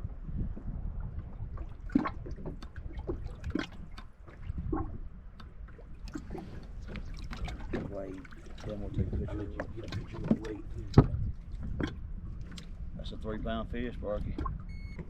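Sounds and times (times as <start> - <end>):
low steady rumble: 0.0 - 15.0
water splashing and trickling: 0.4 - 15.0.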